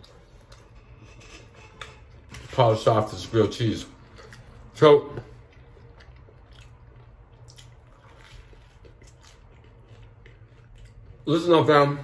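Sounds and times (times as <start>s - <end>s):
man chewing: 0.0s - 2.5s, 3.9s - 11.3s.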